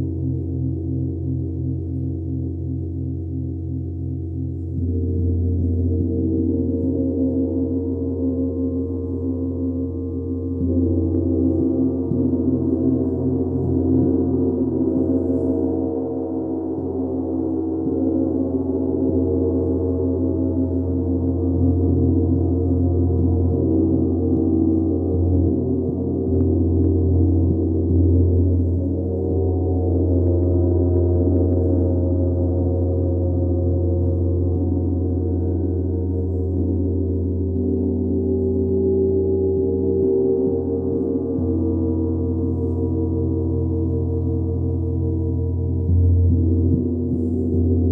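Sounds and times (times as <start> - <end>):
deep hum: 0.0 - 47.9
large gong played with mallets: 0.0 - 47.9.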